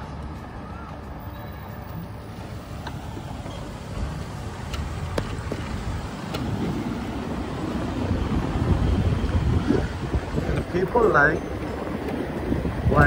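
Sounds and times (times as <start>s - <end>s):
street traffic: 0.0s - 13.0s
wind rumbling on microphone: 2.5s - 13.0s.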